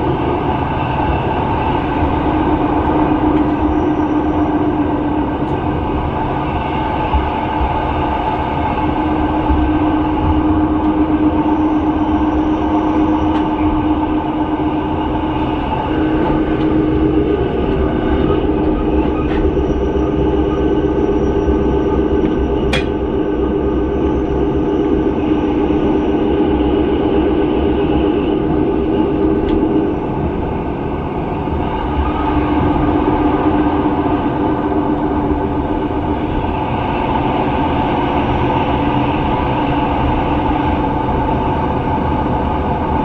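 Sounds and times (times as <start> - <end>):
train rumble and hum: 0.0 - 43.0.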